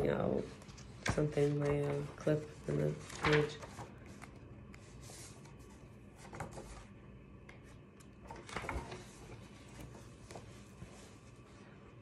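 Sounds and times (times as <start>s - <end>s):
paper rustling: 0.0s - 7.0s, 8.0s - 11.8s.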